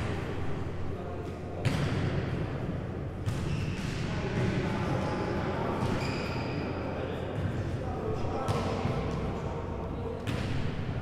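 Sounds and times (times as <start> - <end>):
sports hall background noise: 0.0 - 11.0.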